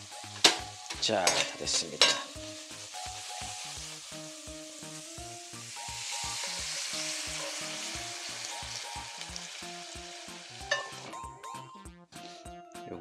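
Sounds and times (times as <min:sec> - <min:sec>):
stir-fry sizzling in a frying pan: 0:00.0 - 0:11.2
background music with steady beat: 0:00.0 - 0:13.0.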